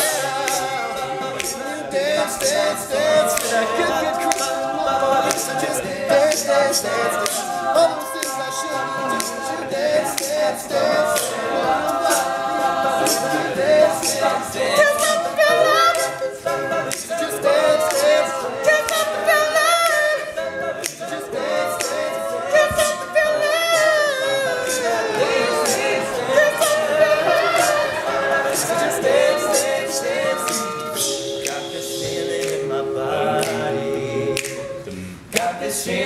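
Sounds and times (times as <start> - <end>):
percussive beat: 0.0 - 35.8
male a cappella group singing: 0.0 - 36.0.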